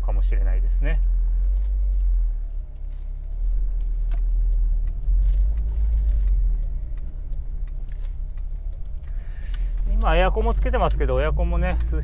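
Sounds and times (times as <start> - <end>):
car engine rumble: 0.0 - 12.0
tyre road noise: 0.0 - 12.0.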